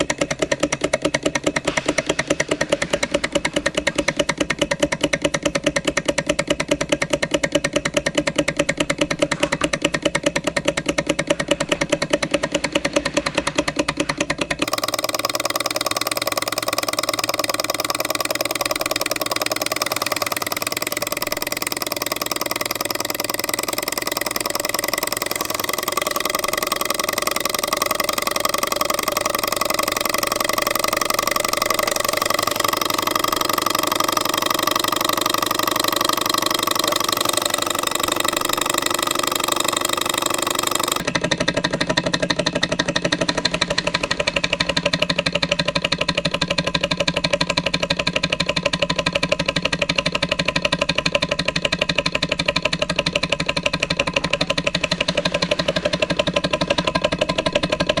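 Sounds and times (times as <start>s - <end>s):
stirling engine clattering: 0.0s - 58.0s.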